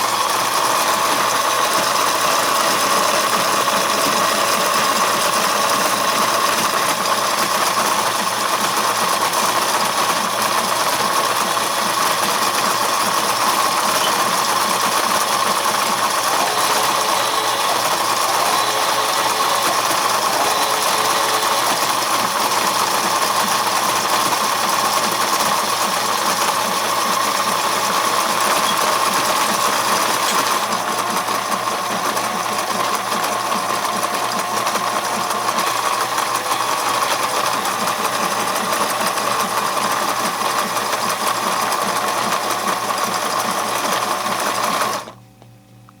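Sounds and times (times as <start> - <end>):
toy train motor and gear whine: 0.0 - 45.2.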